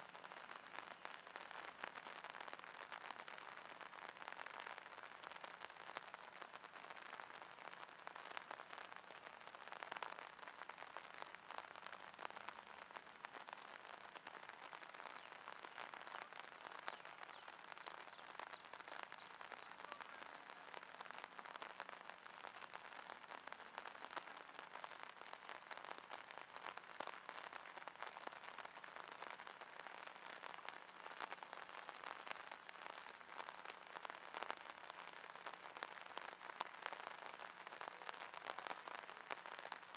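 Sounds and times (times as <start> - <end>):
rain pattering on water: 0.0 - 39.9.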